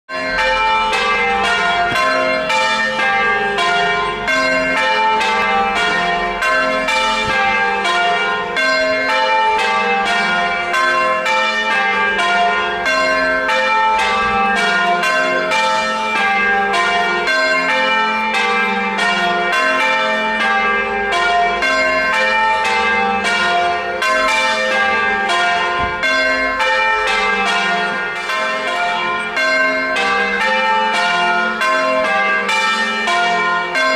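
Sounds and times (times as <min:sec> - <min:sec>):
church bells change ringing: 0:00.1 - 0:33.9.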